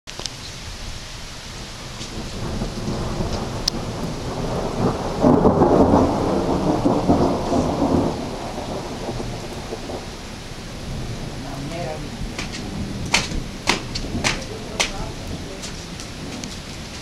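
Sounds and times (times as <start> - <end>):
steady rain: 0.1 - 17.0
thunder rumbling: 0.3 - 17.0.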